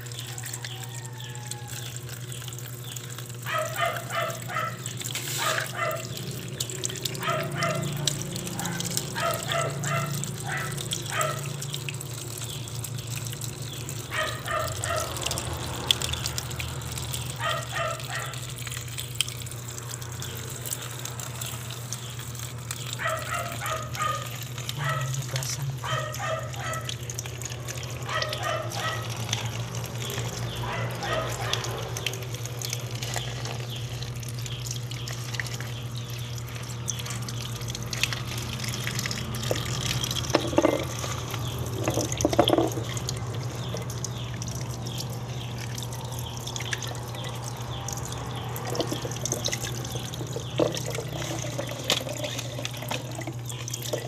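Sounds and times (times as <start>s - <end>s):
tap water splashing over leaves: 0.0s - 54.0s.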